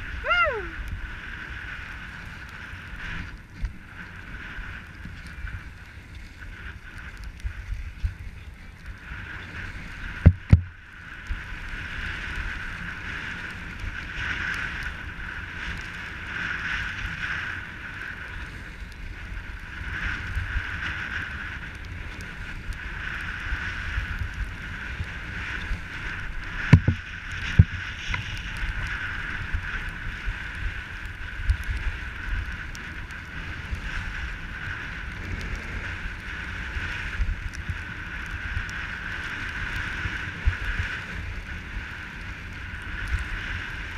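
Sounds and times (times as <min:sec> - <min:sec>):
skis sliding over snow: 0:00.0 - 0:43.9
wind buffeting microphone: 0:00.0 - 0:43.9.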